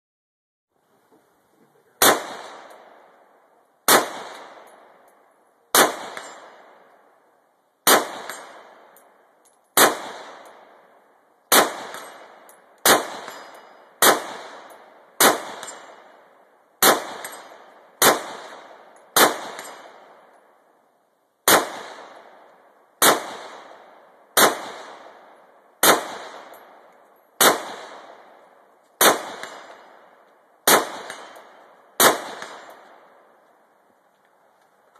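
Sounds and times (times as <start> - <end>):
rifle shots with echo: 2.0 - 20.6, 21.4 - 33.4.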